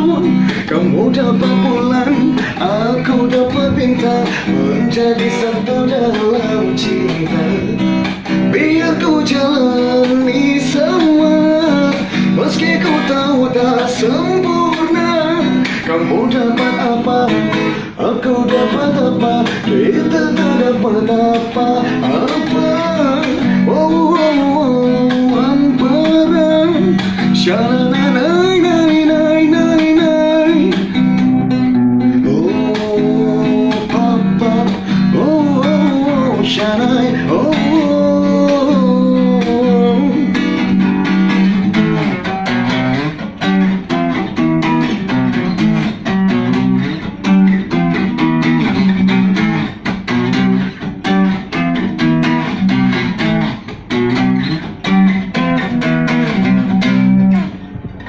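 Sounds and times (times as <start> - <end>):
man singing wordlessly: 0.0 - 57.3
strummed guitar: 0.0 - 58.0.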